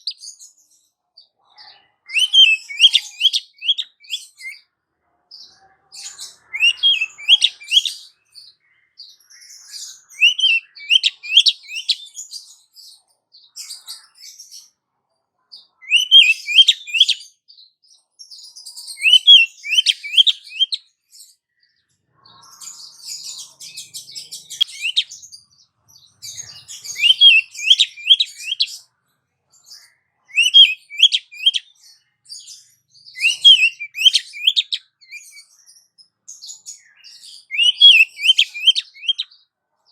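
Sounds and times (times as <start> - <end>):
scratchy twittering bird chatter: 0.0 - 4.7, 5.3 - 14.8, 18.2 - 39.9.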